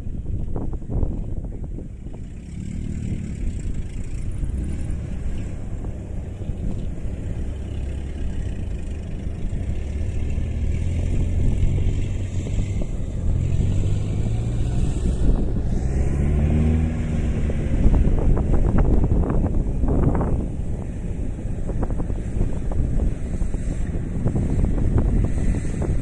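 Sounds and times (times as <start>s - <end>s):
diesel engine revving: 2.1s - 26.0s.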